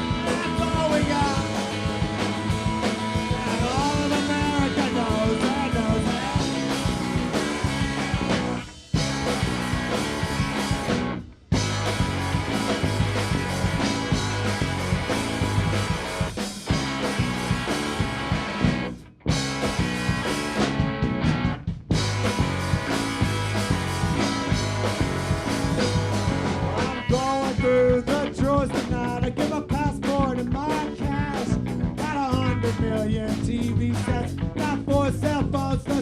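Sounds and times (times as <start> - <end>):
bass: 0.0 - 36.0
drum kit: 0.0 - 36.0
electric guitar: 0.0 - 36.0.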